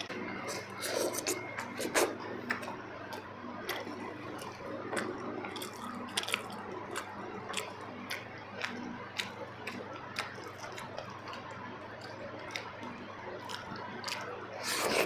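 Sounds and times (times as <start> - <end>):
person chewing wet food: 0.0 - 15.0.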